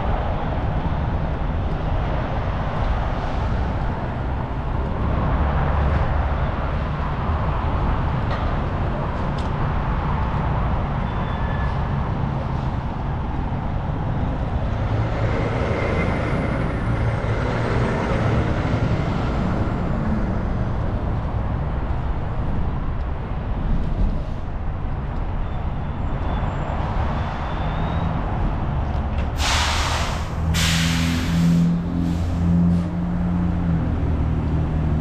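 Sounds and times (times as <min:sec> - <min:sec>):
road and traffic noise: 0:00.0 - 0:35.0
vehicle engine rumbling: 0:00.0 - 0:35.0.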